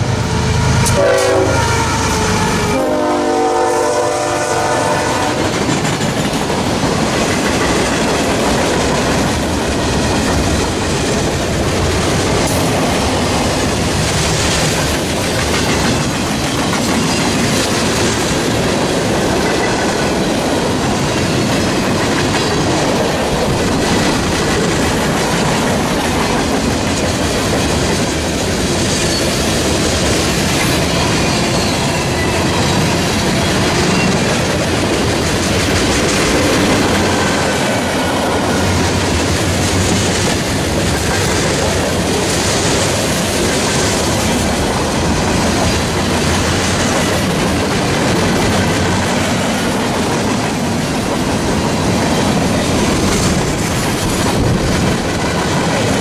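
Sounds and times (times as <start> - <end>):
train wheels clattering: 4.2 - 56.0.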